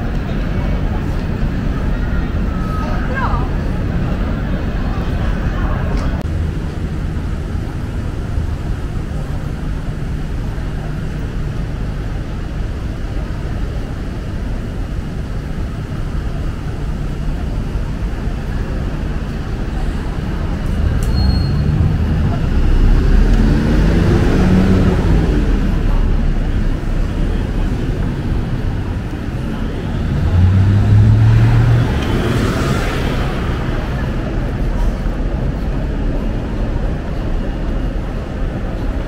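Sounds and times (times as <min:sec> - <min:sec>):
city street traffic: 0:00.0 - 0:39.0
heavy vehicle engine accelerating: 0:00.0 - 0:39.0.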